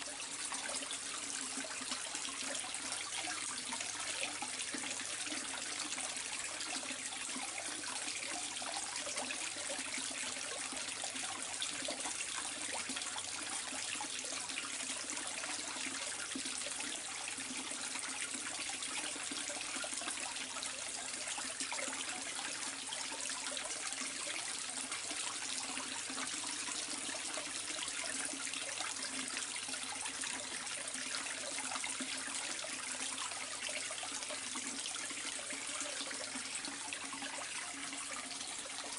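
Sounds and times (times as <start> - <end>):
water trickling into a pond: 0.0 - 38.9.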